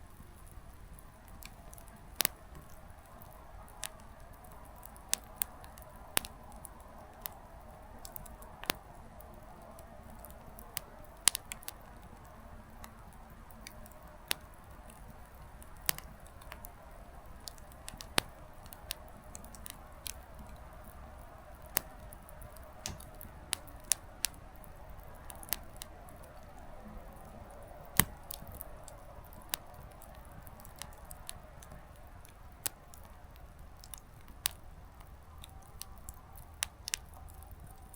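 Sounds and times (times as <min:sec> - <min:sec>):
firewood popping: 0:00.1 - 0:07.4, 0:10.1 - 0:37.9.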